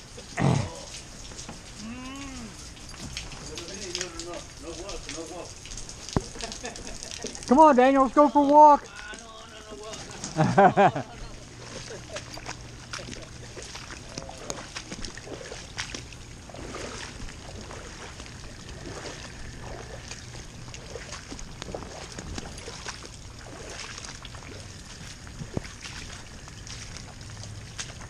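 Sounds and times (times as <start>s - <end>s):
footsteps on wet grass: 2.5s - 28.0s
boots splashing through water: 2.8s - 28.0s.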